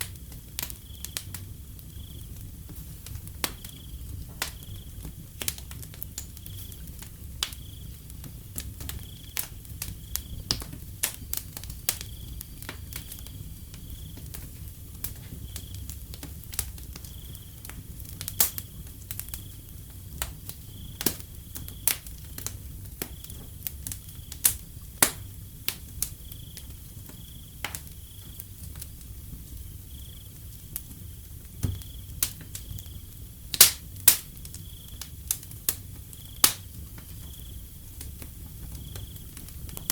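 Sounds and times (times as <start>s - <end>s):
cricket chirping: 0.0s - 39.9s
wood fire crackling and popping: 0.0s - 39.9s.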